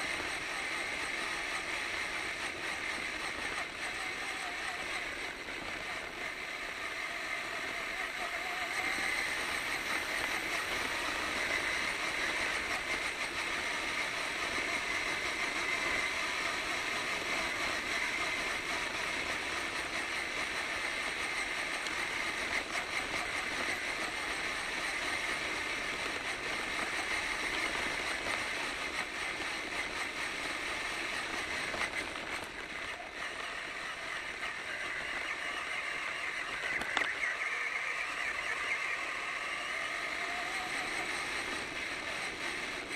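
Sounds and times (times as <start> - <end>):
rc truck motor whining: 0.0 - 42.9
tyres rumbling on loose dirt: 0.0 - 42.9.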